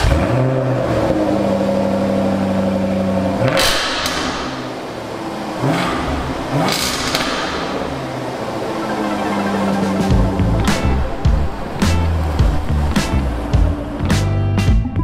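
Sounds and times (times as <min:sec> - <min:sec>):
car engine idling high: 0:00.0 - 0:14.9
engine throttle blips: 0:00.0 - 0:15.0.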